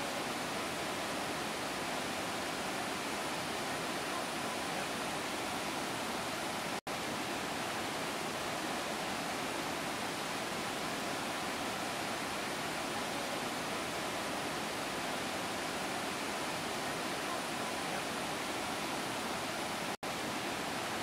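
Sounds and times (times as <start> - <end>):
rushing waterfall: 0.0 - 21.0.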